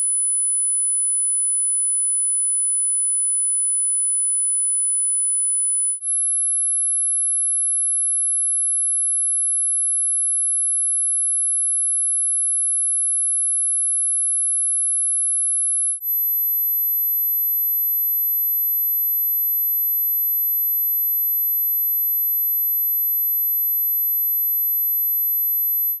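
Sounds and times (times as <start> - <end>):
high sine-wave test tone: 0.0 - 26.0.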